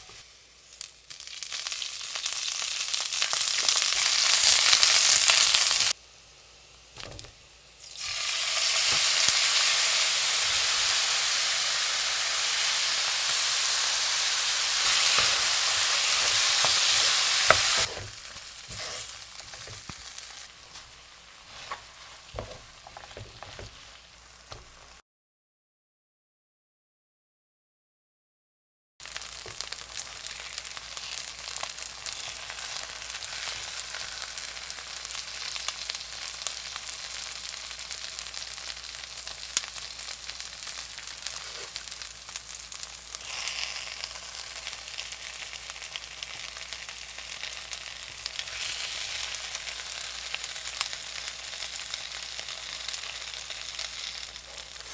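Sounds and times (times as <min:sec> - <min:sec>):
food sizzling in a frying pan: 0:00.0 - 0:25.0, 0:29.0 - 0:54.9.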